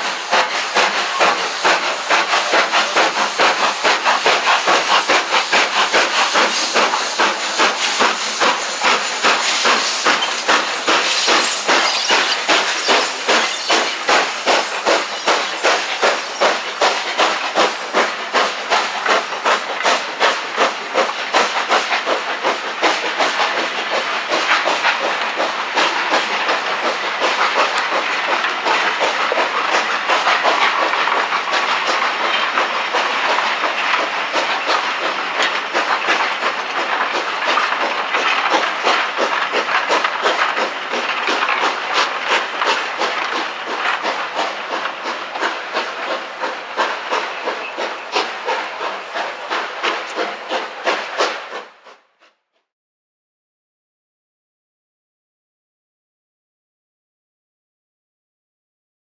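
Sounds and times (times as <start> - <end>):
hiss of steam: 0.0 - 52.0
steam locomotive chuffing: 0.0 - 52.4.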